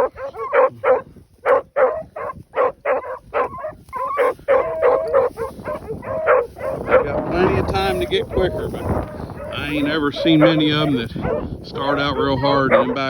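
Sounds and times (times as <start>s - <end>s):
dogs baying and barking: 0.0s - 13.0s.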